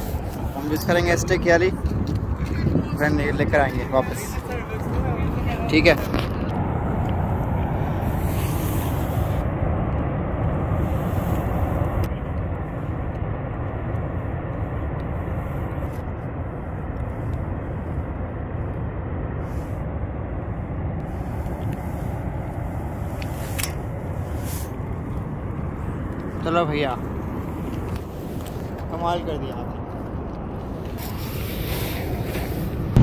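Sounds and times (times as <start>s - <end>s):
low rushing outdoor noise: 0.0s - 33.0s.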